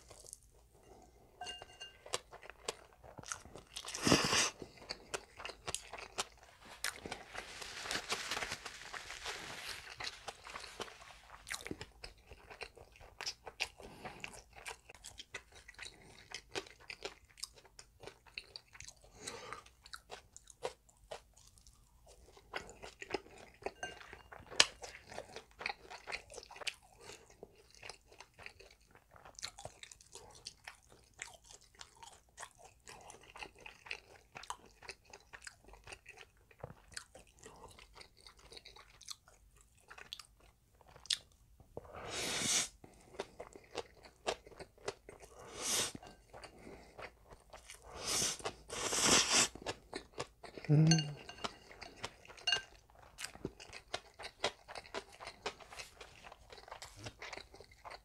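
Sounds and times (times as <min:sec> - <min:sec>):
chewing crunchy food: 0:00.0 - 0:42.0, 0:42.6 - 0:58.0.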